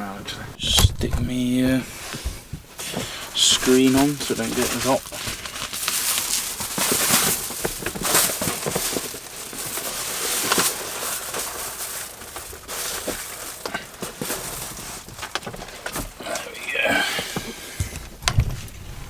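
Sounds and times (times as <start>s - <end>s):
sunshade crinkling and rustling: 0.5s - 19.0s.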